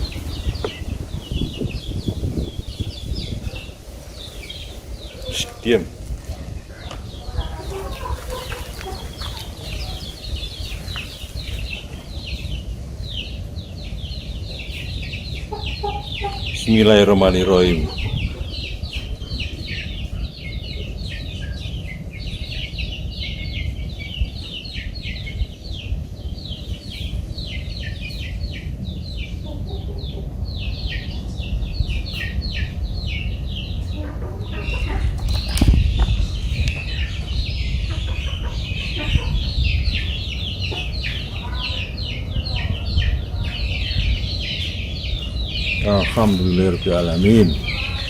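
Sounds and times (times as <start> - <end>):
birds peeping: 0.0 - 48.0.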